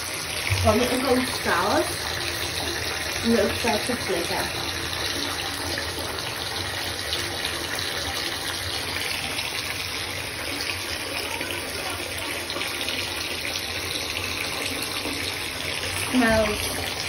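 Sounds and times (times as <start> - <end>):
water pouring into bathtub: 0.0 - 17.0.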